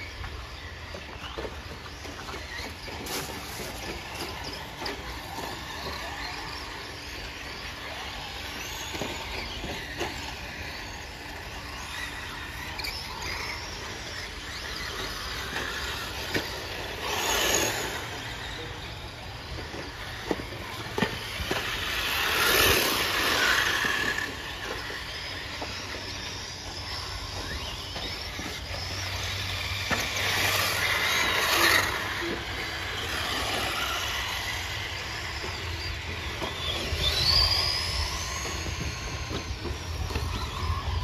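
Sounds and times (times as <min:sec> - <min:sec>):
electric toy car motor whine: 0:00.0 - 0:41.0.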